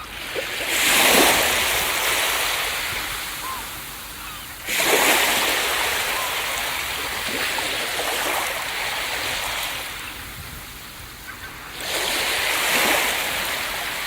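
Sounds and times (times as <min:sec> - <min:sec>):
ocean waves crashing: 0:00.0 - 0:14.0.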